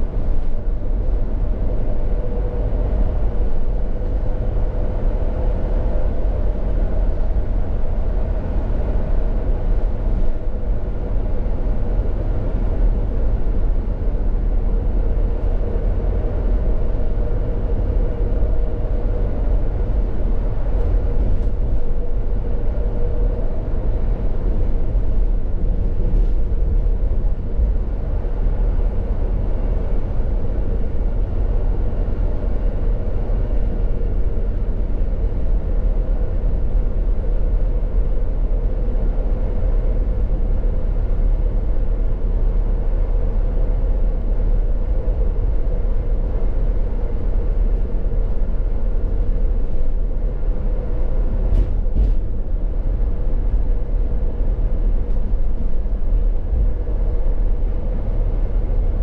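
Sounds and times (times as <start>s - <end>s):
faint continuous hum: 0.0s - 59.0s
low rumble: 0.0s - 59.0s.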